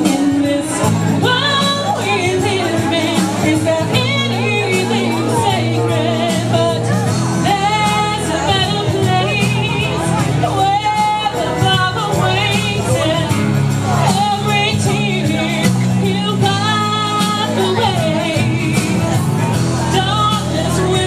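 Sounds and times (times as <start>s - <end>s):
instrumental accompaniment: 0.0s - 21.0s
woman singing into microphone: 0.0s - 21.0s.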